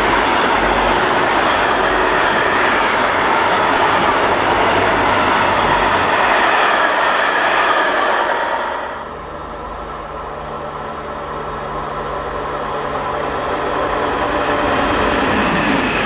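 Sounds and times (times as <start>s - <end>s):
train wheels rushing past: 0.0s - 16.0s.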